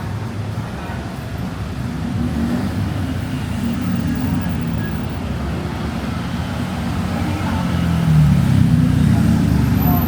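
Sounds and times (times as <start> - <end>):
vehicle engines passing and idling: 0.0 - 10.0.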